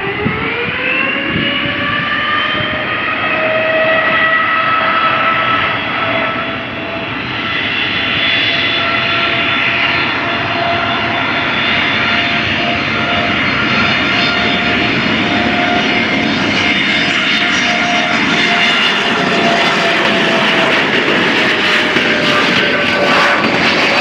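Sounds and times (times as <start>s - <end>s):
jet engines roaring with whine: 0.0s - 24.0s.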